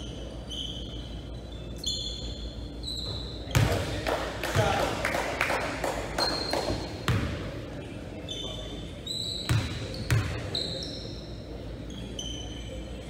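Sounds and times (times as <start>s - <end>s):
sneakers squeaking on floor: 0.0s - 4.0s, 6.1s - 13.0s.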